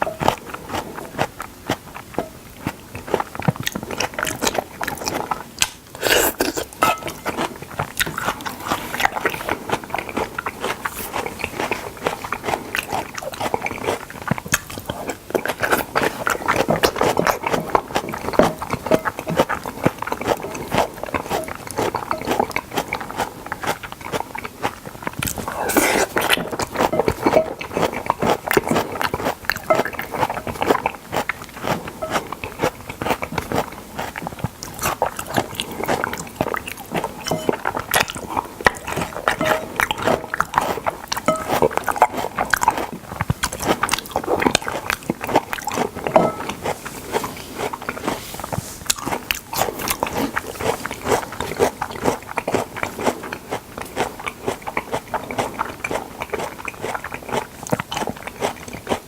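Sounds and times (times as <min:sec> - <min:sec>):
chewing and biting: 0:00.0 - 0:59.0.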